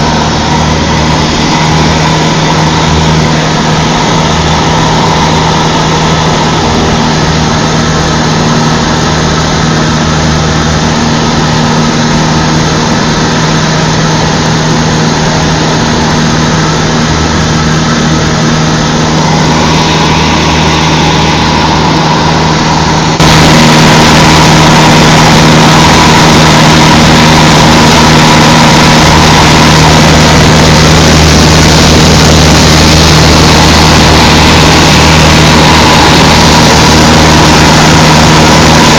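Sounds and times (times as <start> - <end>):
plane engine and propeller drone: 0.0 - 38.9.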